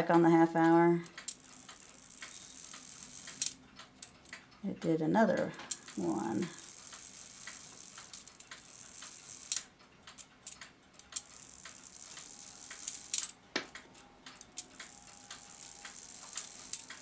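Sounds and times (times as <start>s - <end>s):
clock mechanism clicking: 0.0s - 17.0s.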